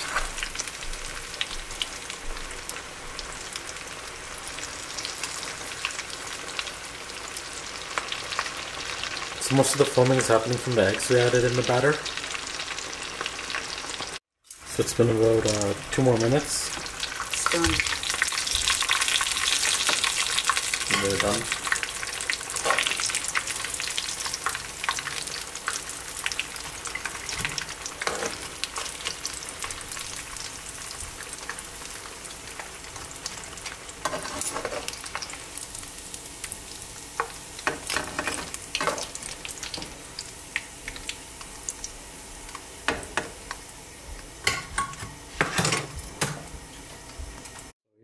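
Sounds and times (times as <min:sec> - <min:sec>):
battered food deep-frying in oil: 0:00.0 - 0:47.8.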